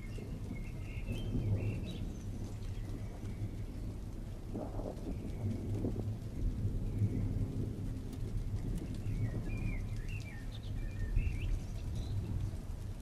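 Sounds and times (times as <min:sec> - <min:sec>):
distant thunder rumbling: 0:00.0 - 0:13.0.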